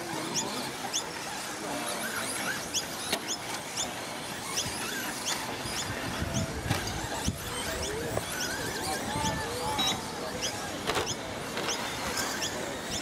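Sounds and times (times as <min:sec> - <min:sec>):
radio-controlled trucks racing: 0:00.0 - 0:13.0.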